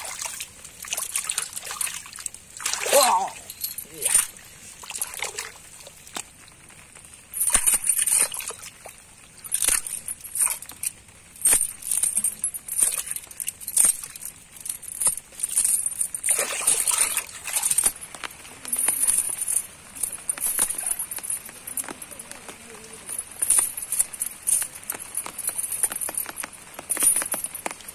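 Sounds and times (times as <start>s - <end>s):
metal chain clinking: 0.0s - 27.9s.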